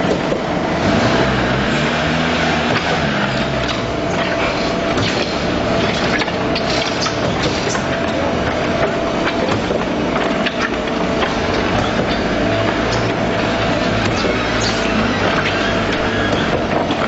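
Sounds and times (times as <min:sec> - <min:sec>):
concrete pump running: 0:00.0 - 0:17.0.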